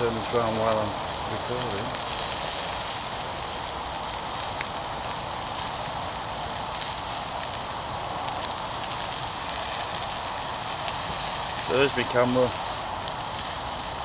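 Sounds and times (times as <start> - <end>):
faint fire crackles: 0.0 - 14.0
food sizzling in a pan: 0.0 - 14.0.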